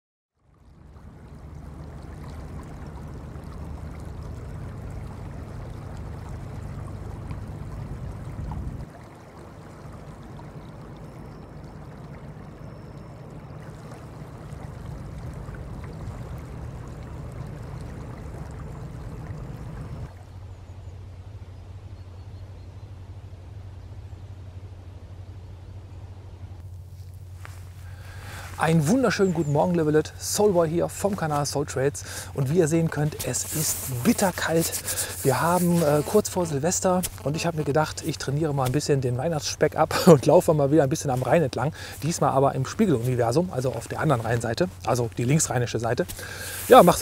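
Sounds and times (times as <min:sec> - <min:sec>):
rushing river water: 0:00.5 - 0:20.5, 0:26.9 - 0:47.0.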